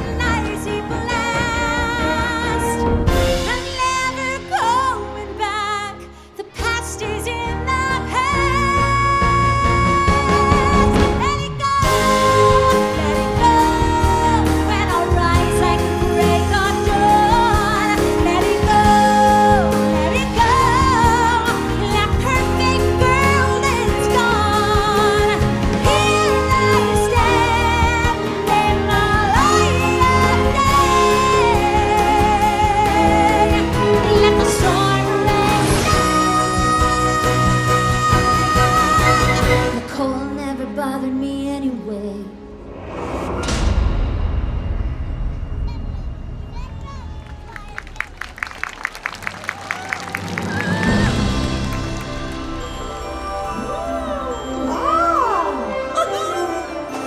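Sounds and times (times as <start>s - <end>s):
person singing with vibrato: 0.0s - 42.5s, 52.6s - 57.0s
soundtrack music: 0.0s - 57.0s.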